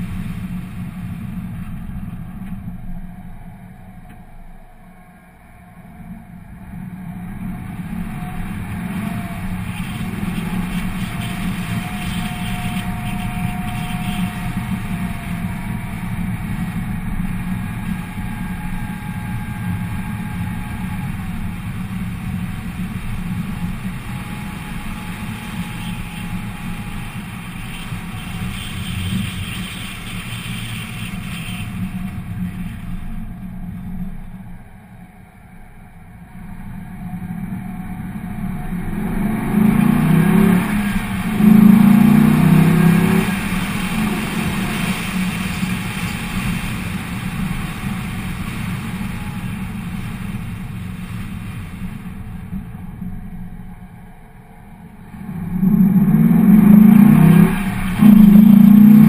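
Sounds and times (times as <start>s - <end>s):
car engine pulling away: 0.0s - 59.0s.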